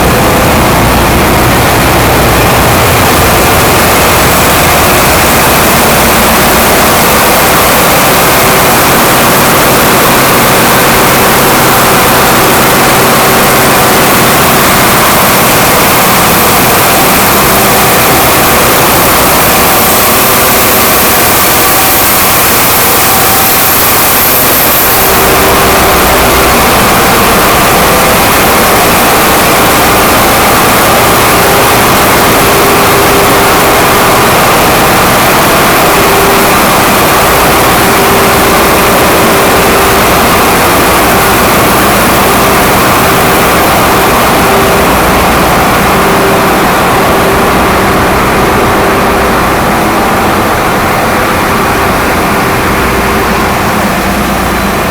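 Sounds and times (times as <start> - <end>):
engine room machinery roaring: 0.0 - 54.9
high machine whine: 0.0 - 54.9.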